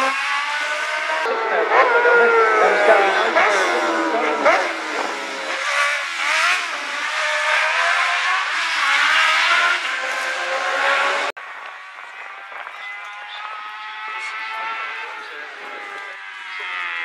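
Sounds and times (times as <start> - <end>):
racing engines passing: 0.0 - 17.0
steady engine drone: 0.0 - 17.0.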